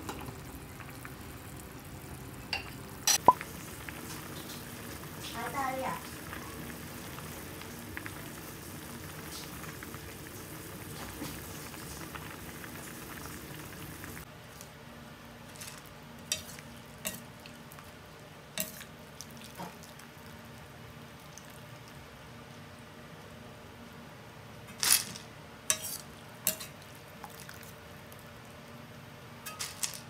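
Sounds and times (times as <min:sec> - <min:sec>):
pot boiling and bubbling: 0:00.0 - 0:30.0.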